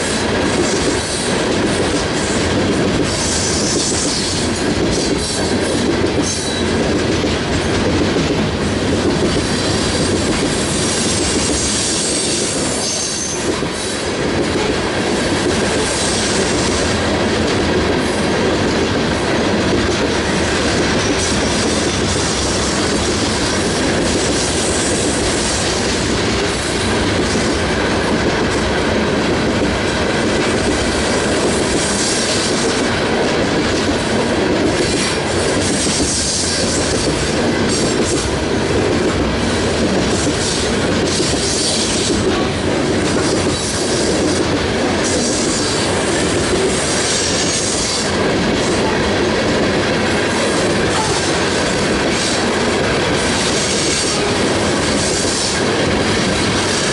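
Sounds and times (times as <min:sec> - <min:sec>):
train wheels clacking on rails: 0:00.0 - 0:56.9.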